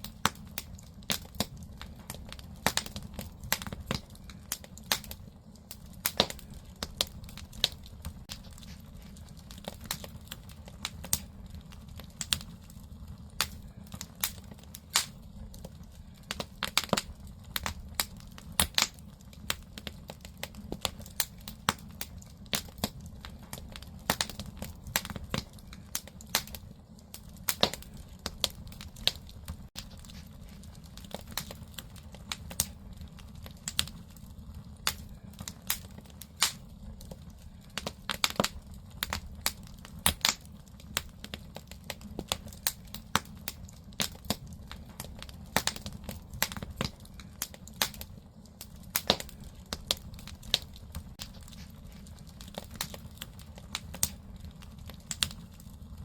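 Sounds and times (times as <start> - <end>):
fire rumbling: 0.0 - 56.0
firewood crackling and popping: 0.0 - 56.0.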